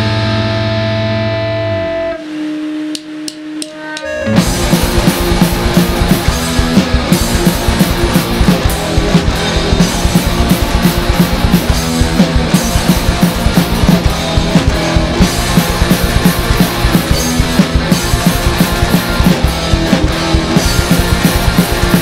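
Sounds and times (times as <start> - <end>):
rock band playing punk music: 0.0 - 2.5, 3.1 - 22.0
guitar: 0.0 - 22.0
drum kit with cymbals: 2.2 - 22.0.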